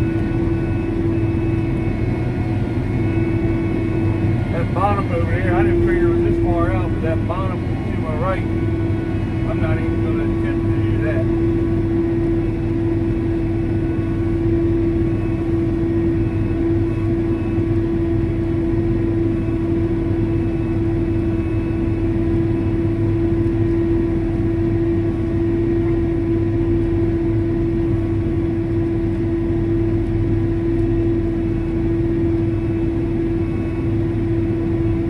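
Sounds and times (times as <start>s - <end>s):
diesel engine running: 0.0s - 35.0s
steady engine whine: 0.0s - 35.0s.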